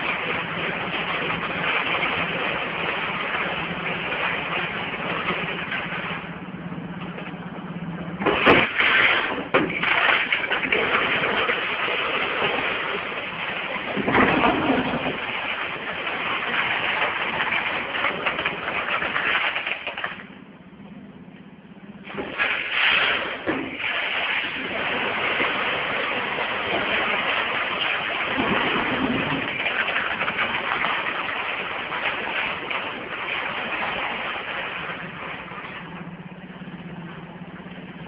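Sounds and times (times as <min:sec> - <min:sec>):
machine low hum: 0:00.0 - 0:19.4, 0:20.1 - 0:38.0.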